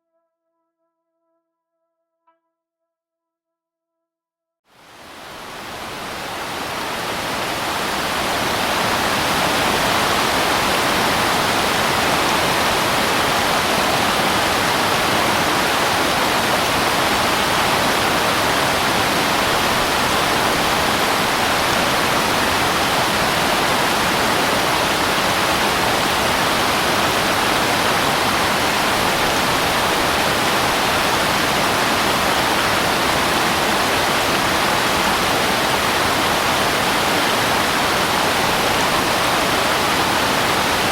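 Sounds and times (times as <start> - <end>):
waterfall rushing: 4.7 - 40.9.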